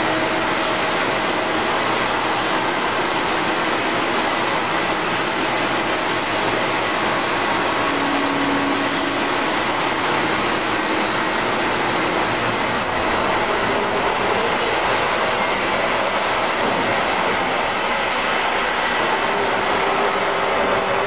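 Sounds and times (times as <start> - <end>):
faint machine whines: 0.0 - 16.9
machining center hiss and hum: 0.0 - 21.0.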